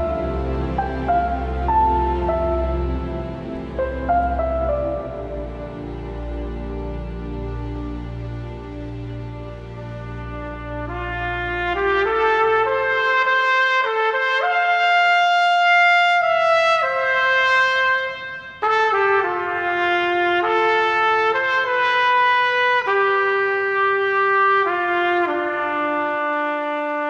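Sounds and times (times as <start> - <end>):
trumpet playing slow melody: 0.0 - 27.0.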